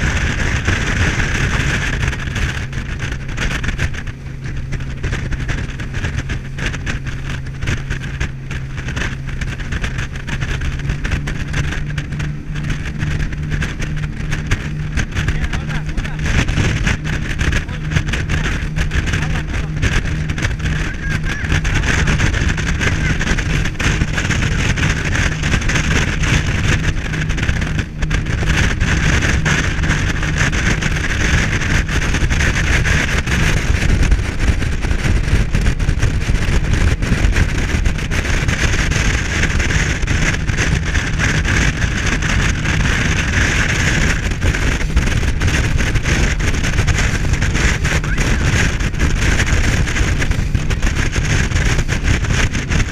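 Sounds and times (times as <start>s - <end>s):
boat engine running: 0.0s - 52.9s
wind buffeting microphone: 0.0s - 52.9s.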